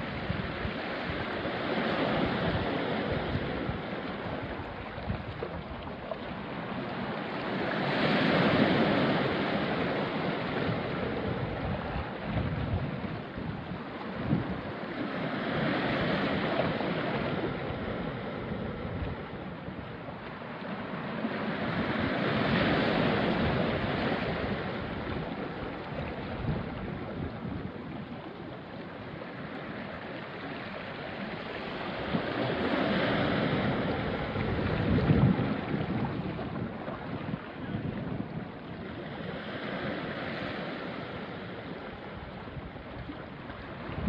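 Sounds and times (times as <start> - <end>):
waves washing onto rocky shore: 0.0 - 44.0
wind on microphone: 0.0 - 44.0.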